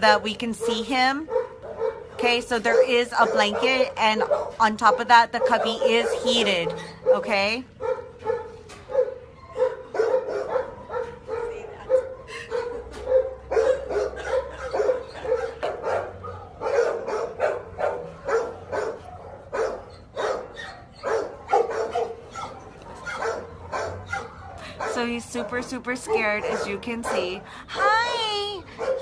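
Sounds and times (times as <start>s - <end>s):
dog barking: 0.6s - 29.0s.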